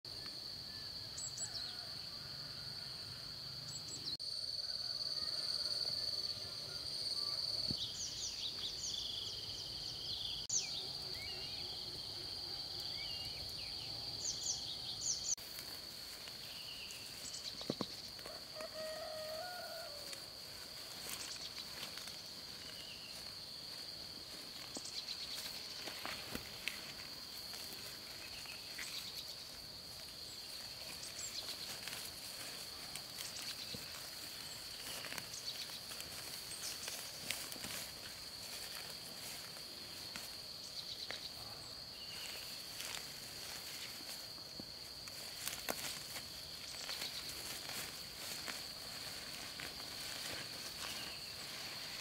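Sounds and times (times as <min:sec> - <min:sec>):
insect drone: 0:00.1 - 0:52.0.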